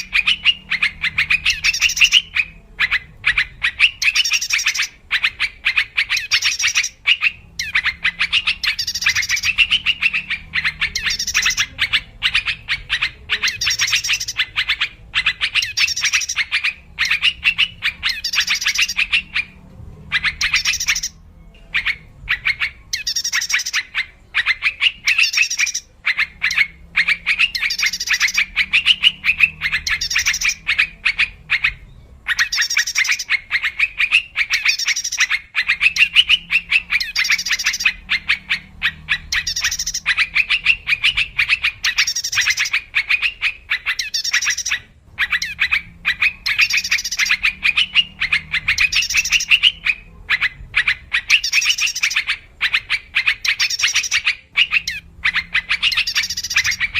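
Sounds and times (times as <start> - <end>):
bird chattering call: 0.0 - 56.9.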